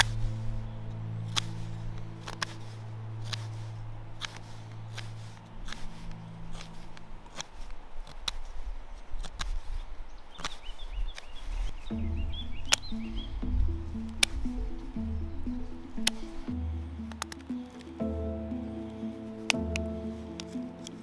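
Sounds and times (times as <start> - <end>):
background music drone: 0.0 - 8.9, 11.8 - 21.0.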